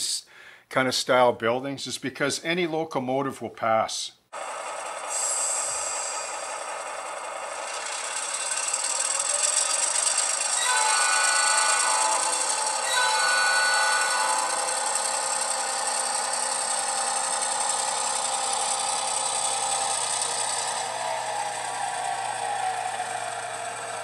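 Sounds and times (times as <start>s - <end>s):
model train mechanical whine: 4.4s - 24.0s.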